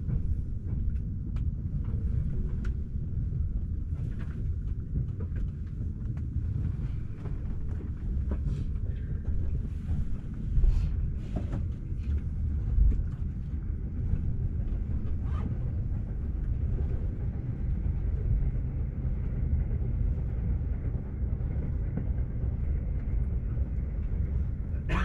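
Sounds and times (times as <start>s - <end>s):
train car rumble: 0.0s - 25.0s.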